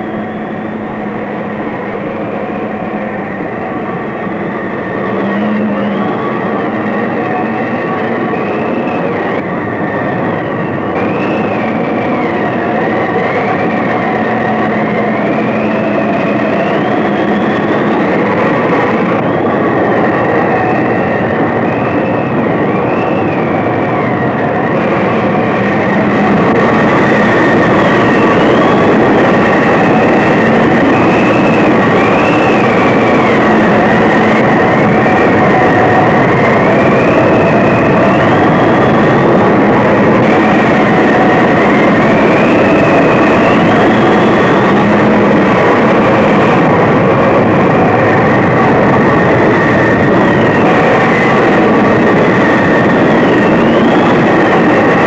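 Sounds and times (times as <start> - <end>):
howling wind whistle: 0.0 - 55.0
tornado roar: 0.0 - 55.0.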